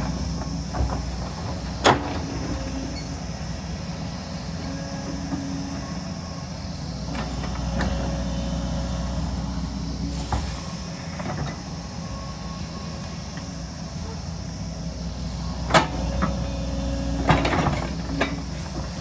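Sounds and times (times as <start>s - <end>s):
excavator diesel engine running: 0.0s - 19.0s
low hum: 0.0s - 19.0s.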